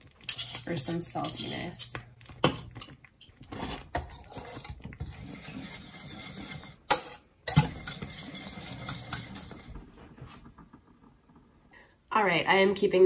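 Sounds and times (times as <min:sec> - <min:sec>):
whisk scraping saucepan: 0:00.0 - 0:10.7.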